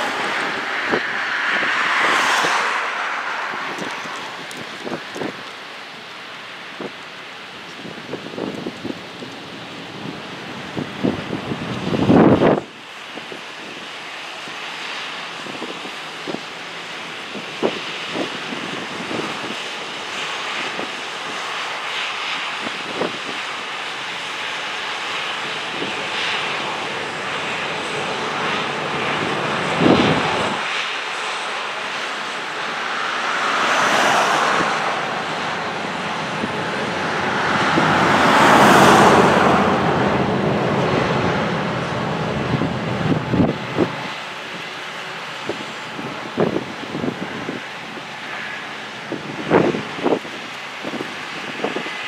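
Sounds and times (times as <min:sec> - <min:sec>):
heavy harvest machinery roaring: 0:00.0 - 0:52.0.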